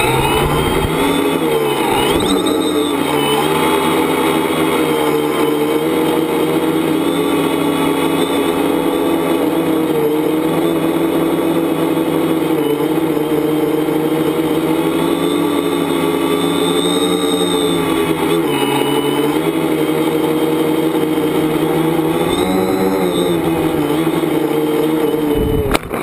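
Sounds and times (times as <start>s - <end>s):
drone motors and propellers humming: 0.0s - 26.0s.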